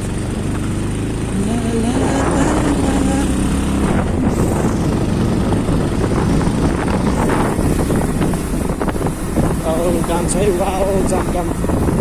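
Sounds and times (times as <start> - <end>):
vehicle running on rough track: 0.0 - 12.0
wind buffeting microphone: 0.6 - 12.0.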